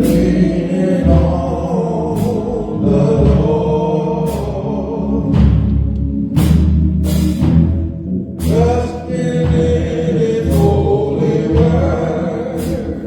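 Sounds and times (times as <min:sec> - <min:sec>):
gospel singing: 0:00.0 - 0:13.0
steady bass: 0:00.0 - 0:13.0.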